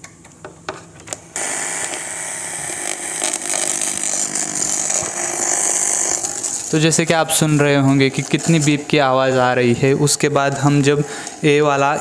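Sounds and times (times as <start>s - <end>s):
harsh buzzing from speaker: 1.3s - 12.0s.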